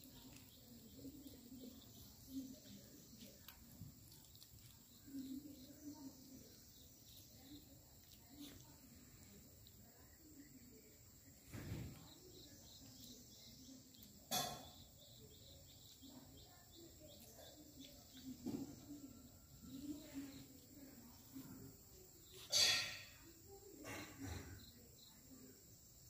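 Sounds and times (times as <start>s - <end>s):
faint insect chirps: 0.0s - 26.0s.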